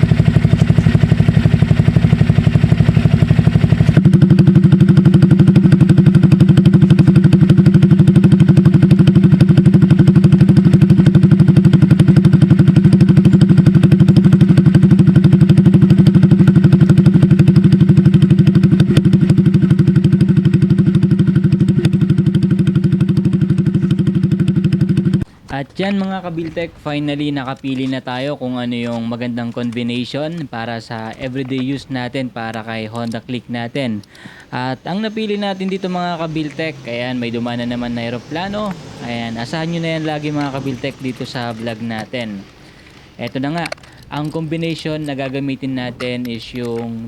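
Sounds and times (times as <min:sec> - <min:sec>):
scooter engine idling: 0:00.0 - 0:47.0.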